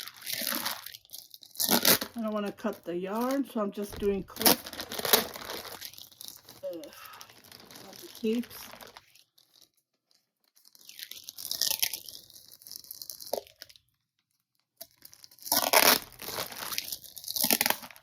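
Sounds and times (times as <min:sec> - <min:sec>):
packing tape ripping: 0:00.0 - 0:13.8, 0:14.5 - 0:18.0
plastic bag crinkling: 0:00.0 - 0:18.0.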